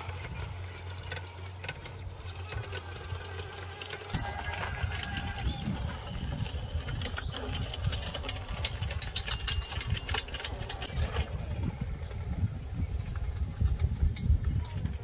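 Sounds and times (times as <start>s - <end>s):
sharp clicks and rattles: 0.0s - 15.0s
small gasoline engine running: 0.0s - 15.0s.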